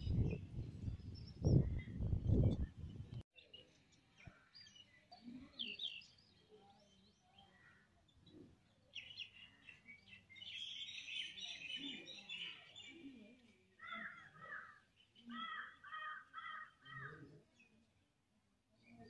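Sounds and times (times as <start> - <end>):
birds chirping: 1.0 - 17.8.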